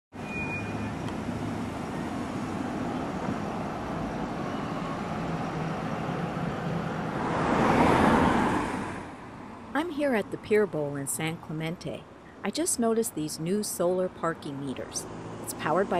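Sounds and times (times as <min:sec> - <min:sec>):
road traffic hum: 0:00.1 - 0:15.9.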